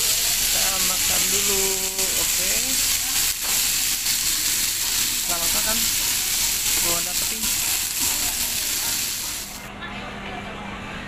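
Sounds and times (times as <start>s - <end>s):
food sizzling on hot plate: 0.0s - 9.7s.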